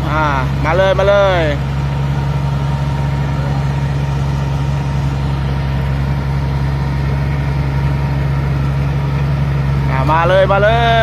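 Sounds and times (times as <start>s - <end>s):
harvester diesel engine droning: 0.0s - 11.0s.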